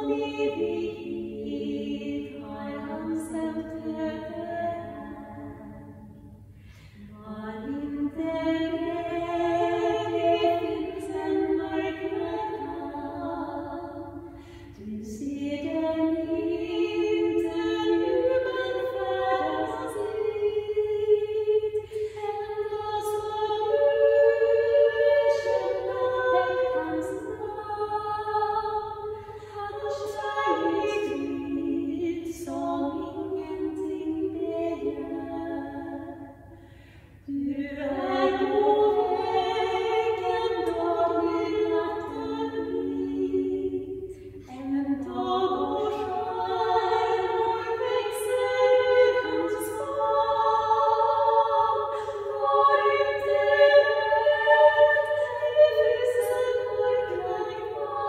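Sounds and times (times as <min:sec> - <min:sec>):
women singing in harmony: 0:00.0 - 0:06.4, 0:07.0 - 0:58.0.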